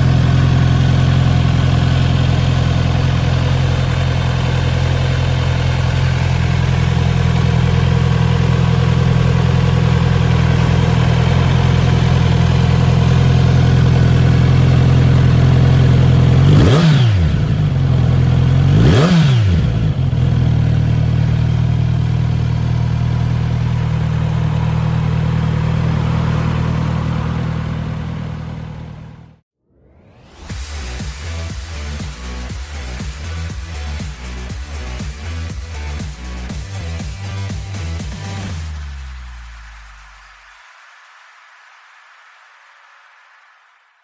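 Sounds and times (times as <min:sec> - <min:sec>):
motorcycle engine idling: 0:00.0 - 0:29.4, 0:31.5 - 0:38.7.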